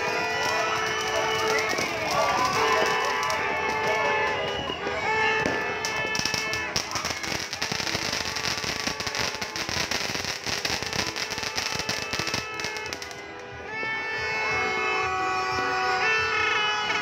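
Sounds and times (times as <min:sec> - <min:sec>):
firecrackers banging: 0:00.0 - 0:13.8
faint music: 0:00.0 - 0:17.0.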